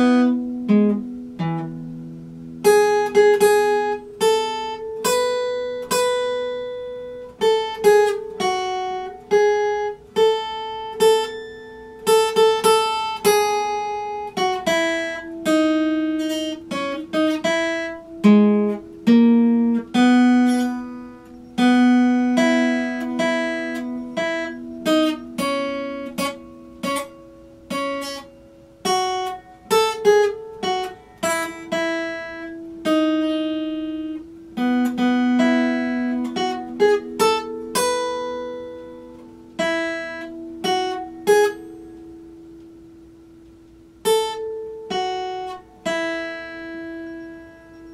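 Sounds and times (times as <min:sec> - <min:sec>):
solo acoustic guitar melody: 0:00.0 - 0:47.9.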